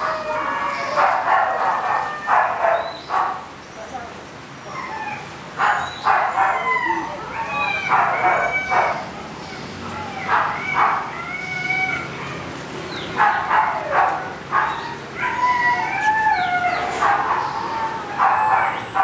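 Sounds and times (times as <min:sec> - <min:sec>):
dog whining: 0:00.0 - 0:03.1, 0:04.7 - 0:12.5, 0:13.5 - 0:19.0.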